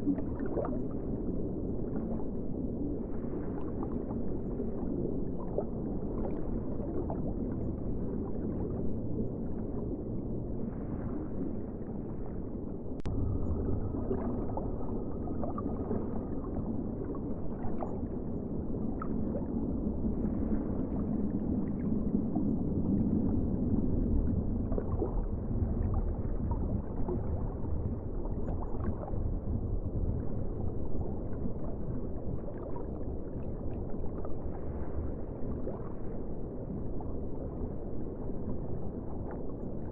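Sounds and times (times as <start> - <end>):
gurgling ocean water wash: 0.0 - 39.9.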